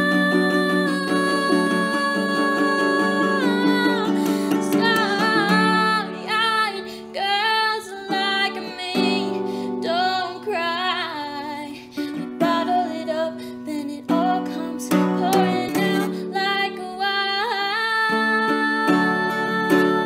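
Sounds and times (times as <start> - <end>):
acoustic guitar: 0.0 - 20.0
woman singing: 0.0 - 20.0.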